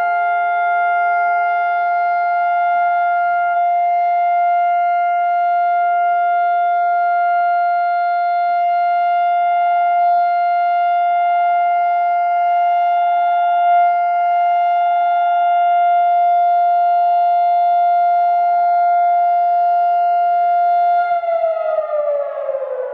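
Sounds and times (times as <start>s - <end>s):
siren steady tone: 0.0s - 22.9s.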